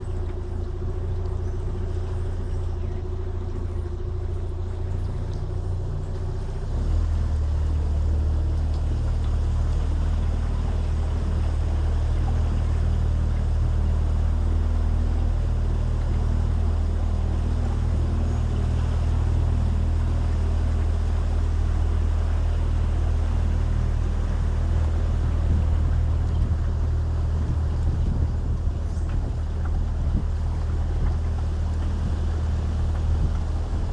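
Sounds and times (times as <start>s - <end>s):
small boat motor humming: 0.0s - 33.9s.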